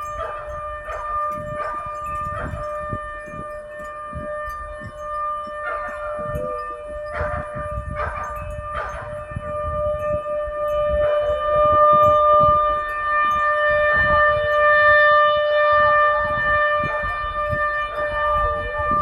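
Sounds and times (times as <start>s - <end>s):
tornado warning siren steady tone: 0.0s - 19.0s.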